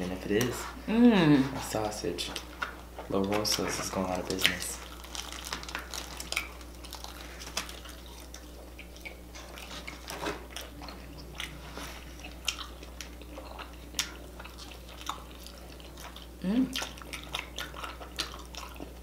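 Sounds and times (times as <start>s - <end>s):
chewing and biting food: 1.6s - 19.0s.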